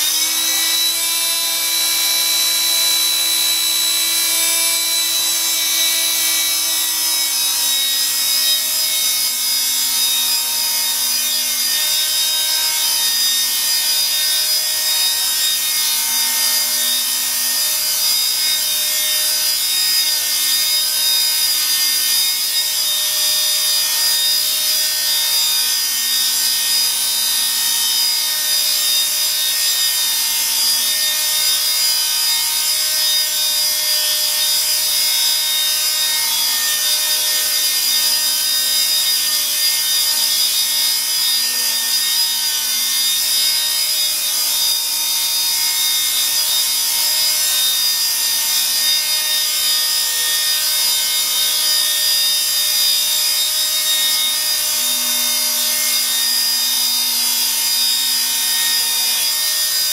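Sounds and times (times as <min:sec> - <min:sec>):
toy helicopter motor whining: 0:00.0 - 0:59.9.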